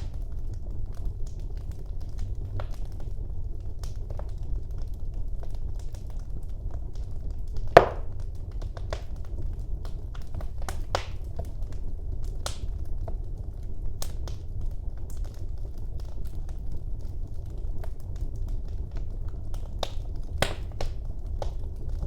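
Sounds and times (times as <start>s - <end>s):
flames rumbling: 0.0s - 22.0s
wood fire crackling and popping: 0.0s - 22.0s.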